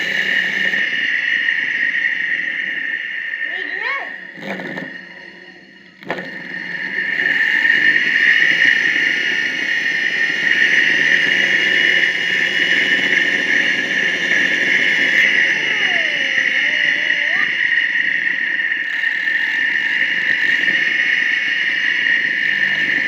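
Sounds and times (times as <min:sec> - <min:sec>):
cooling fan whine and air rush: 0:00.0 - 0:23.0.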